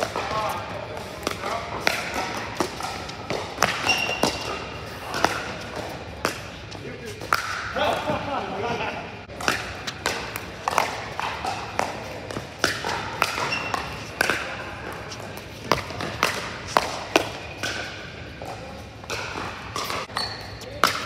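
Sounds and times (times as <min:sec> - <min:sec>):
indoor hall hum: 0:00.0 - 0:21.0.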